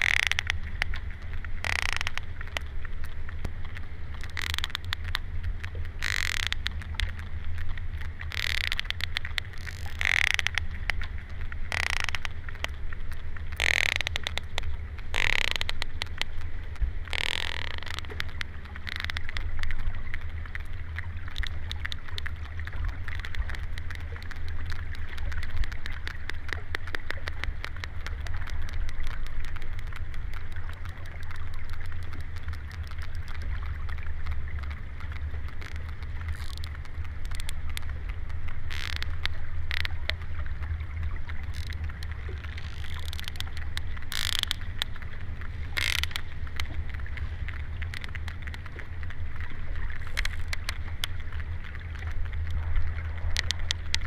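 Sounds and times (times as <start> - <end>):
low underwater rumble: 0.0 - 54.0
whales clicking underwater: 0.0 - 54.0.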